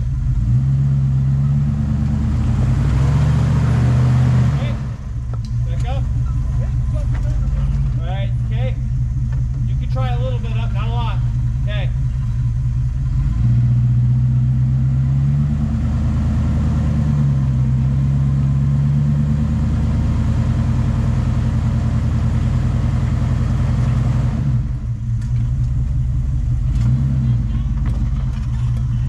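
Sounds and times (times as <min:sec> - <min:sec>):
truck engine under load: 0:00.0 - 0:29.0.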